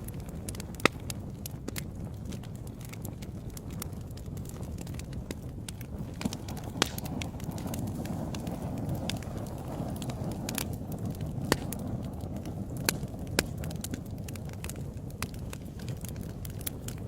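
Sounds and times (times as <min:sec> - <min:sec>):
low roar of flame: 0:00.0 - 0:17.0
sharp pops from fire: 0:00.0 - 0:17.0
wood fire crackling: 0:00.0 - 0:17.0.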